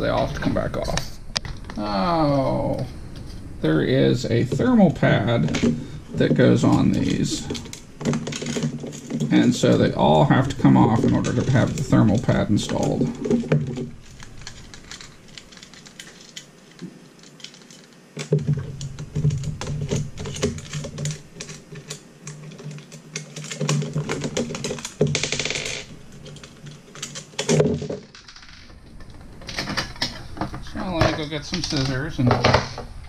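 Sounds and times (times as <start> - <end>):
metal hardware clicking and rattling: 4.2 - 32.8.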